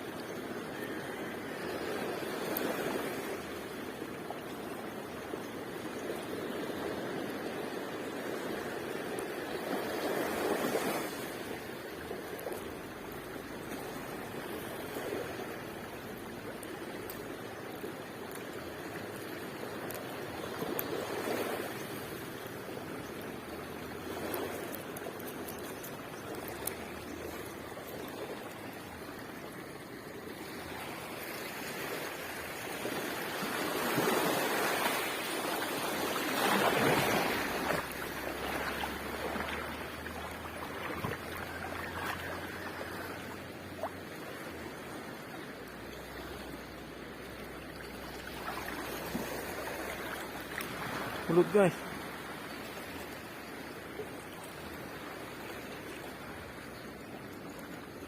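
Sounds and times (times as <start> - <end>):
sea waves washing up beach: 0.0 - 58.0.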